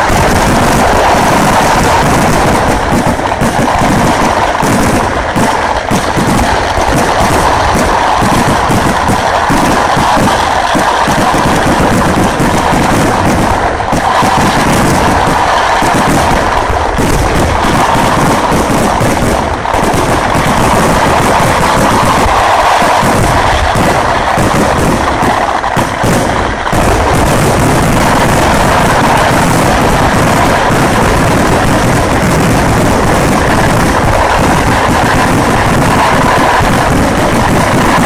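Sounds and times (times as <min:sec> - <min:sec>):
firecracker explosions: 0:00.0 - 0:38.0.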